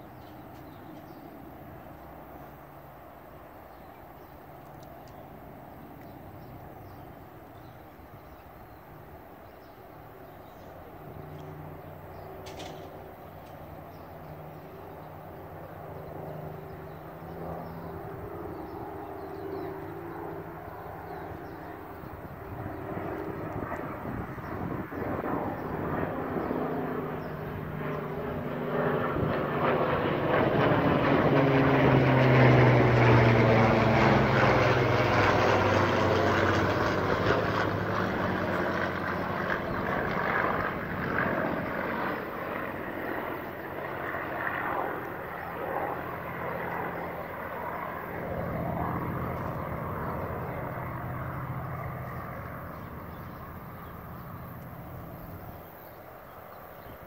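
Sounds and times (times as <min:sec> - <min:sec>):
propeller aircraft flying over: 0:00.0 - 0:57.0.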